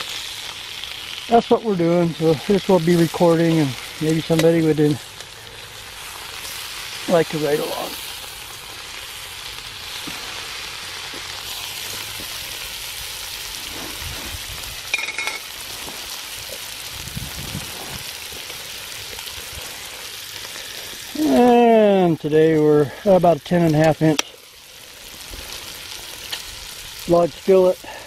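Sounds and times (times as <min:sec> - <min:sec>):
bacon sizzling in a skillet: 0:00.0 - 0:28.0.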